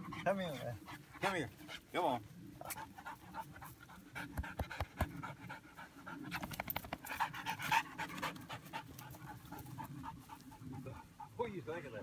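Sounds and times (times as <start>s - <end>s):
dog panting: 0.0s - 11.9s.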